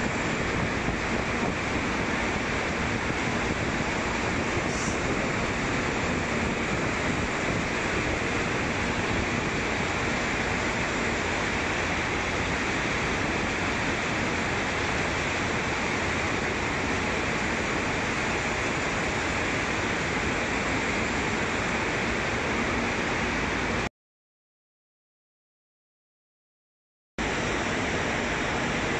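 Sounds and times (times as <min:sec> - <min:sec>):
flotation cells churning slurry: 0:00.0 - 0:23.9, 0:27.2 - 0:28.9.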